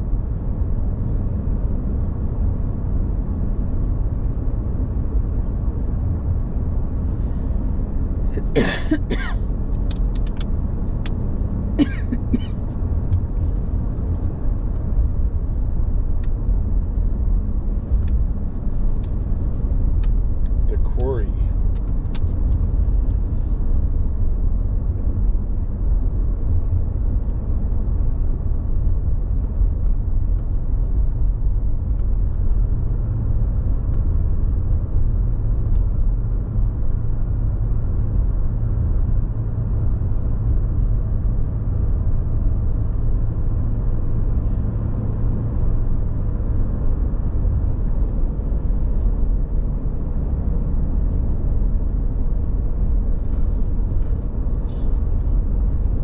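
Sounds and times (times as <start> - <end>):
car road rumble from inside: 0.0 - 56.0.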